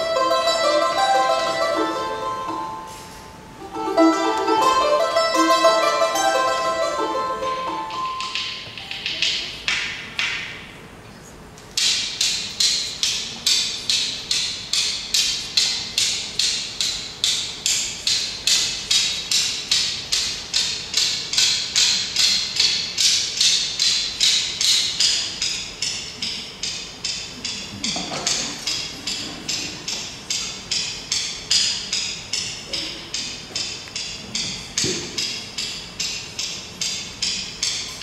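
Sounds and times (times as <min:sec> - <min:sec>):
hand percussion strokes: 0:00.0 - 0:10.7, 0:11.8 - 0:38.0.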